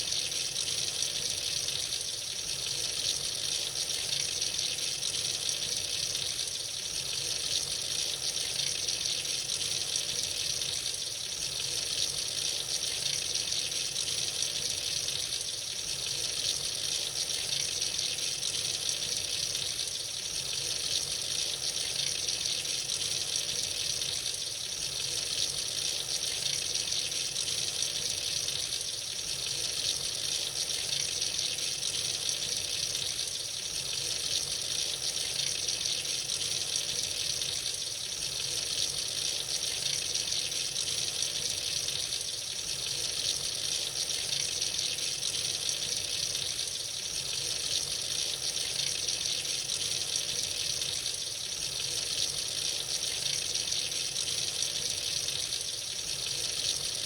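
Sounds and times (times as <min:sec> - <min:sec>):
tap water running into a sink: 0:00.0 - 0:57.0.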